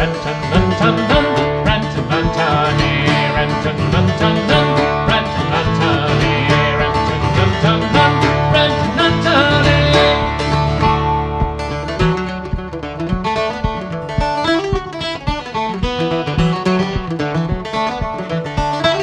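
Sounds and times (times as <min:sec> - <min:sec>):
acoustic string band playing folk: 0:00.0 - 0:19.0.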